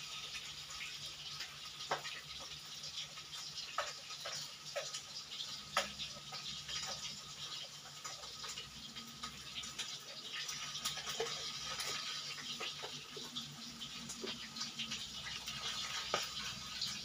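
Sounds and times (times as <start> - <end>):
hot oil sizzling in a wok: 0.0 - 17.0.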